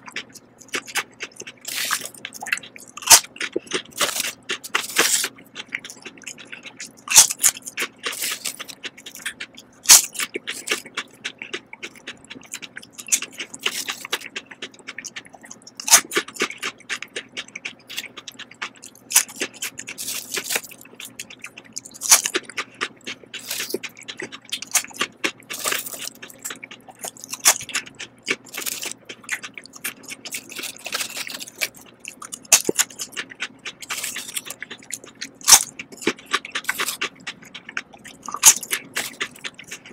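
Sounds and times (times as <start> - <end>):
crunching potato chips: 0.0 - 39.9.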